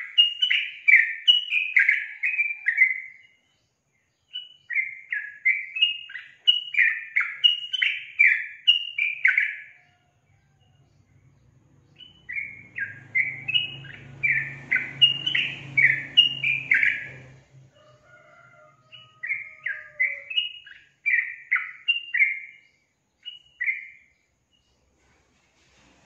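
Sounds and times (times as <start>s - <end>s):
bird chattering song: 0.0s - 10.1s, 10.7s - 17.4s, 18.9s - 24.9s.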